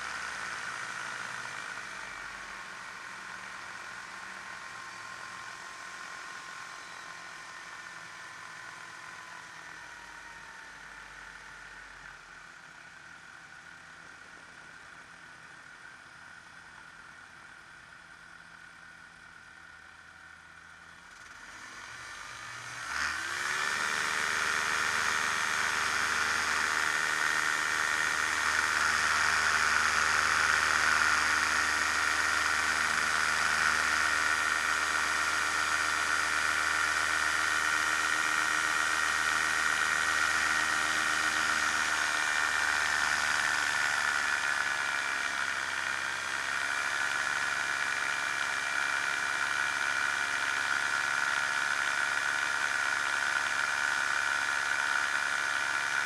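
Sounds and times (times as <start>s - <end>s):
ultralight aircraft engine: 0.0s - 12.2s, 21.2s - 56.0s.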